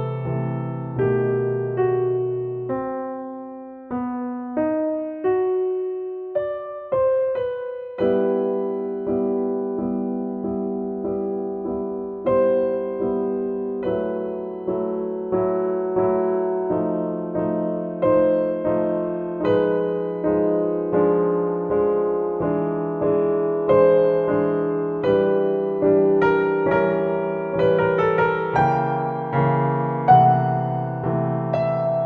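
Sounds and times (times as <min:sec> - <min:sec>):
gentle piano melody: 0:00.0 - 0:32.0.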